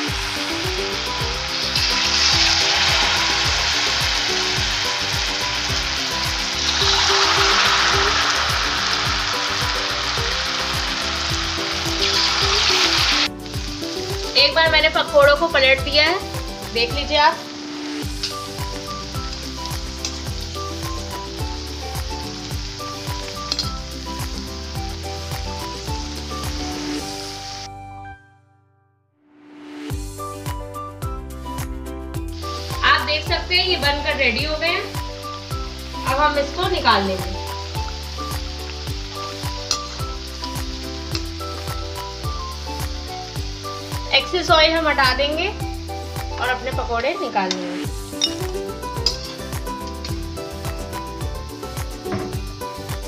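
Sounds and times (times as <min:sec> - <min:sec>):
deep-frying sizzle and crackle: 0:00.0 - 0:27.8, 0:29.9 - 0:53.0
background music with steady beat: 0:00.0 - 0:28.3, 0:29.6 - 0:53.0.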